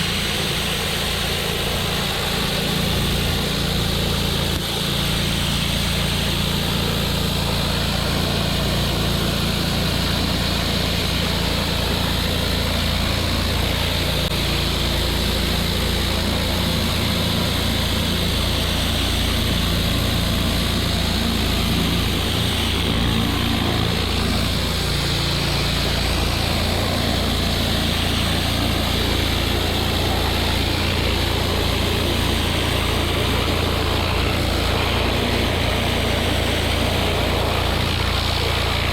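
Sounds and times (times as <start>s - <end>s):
hissing water spray: 0.0s - 38.9s
pressure washer engine running: 0.0s - 38.9s.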